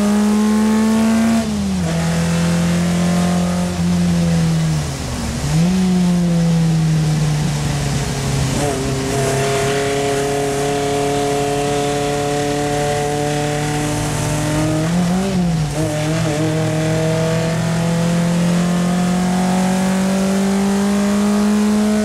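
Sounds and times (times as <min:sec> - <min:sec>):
car engine pulling hard: 0:00.0 - 0:22.0.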